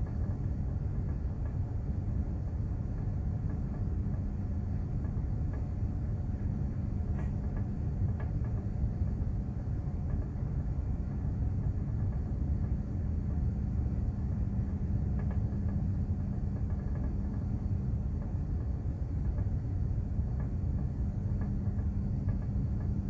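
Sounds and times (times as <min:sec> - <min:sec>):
ship engine rumble and hum: 0:00.0 - 0:23.0.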